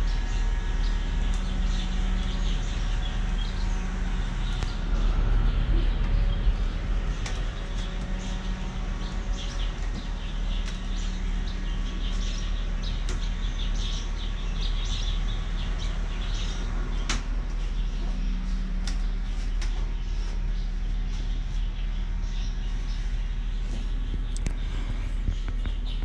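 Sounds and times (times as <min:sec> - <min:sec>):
birds chirping: 0:00.0 - 0:26.0
low outdoor rumble: 0:00.0 - 0:26.0.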